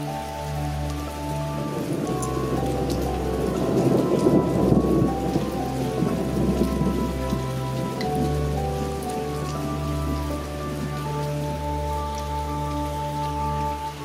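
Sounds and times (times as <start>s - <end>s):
steady rain: 0.0s - 14.0s
thunder rumble: 0.0s - 14.0s.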